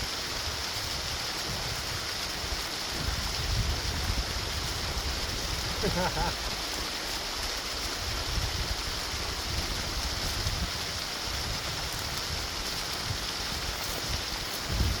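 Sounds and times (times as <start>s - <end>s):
wind rumble on microphone: 0.0s - 6.0s, 7.4s - 15.0s
running water rushing: 0.0s - 15.0s.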